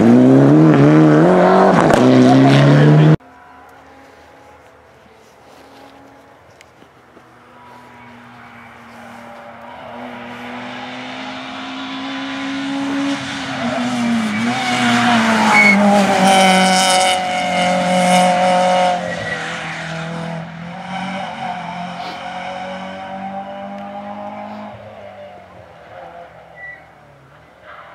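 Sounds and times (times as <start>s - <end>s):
rally car engine passing: 0.0s - 6.4s, 7.2s - 27.9s.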